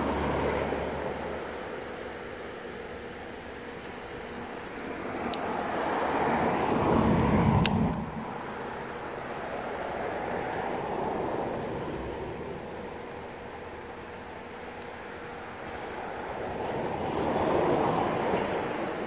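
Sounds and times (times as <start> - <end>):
traffic passing: 0.0 - 19.0.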